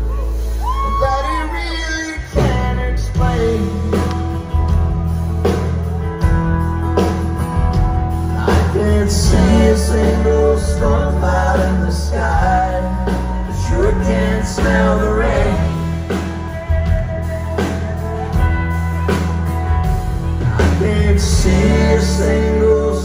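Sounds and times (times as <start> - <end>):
country band playing: 0.0 - 23.0.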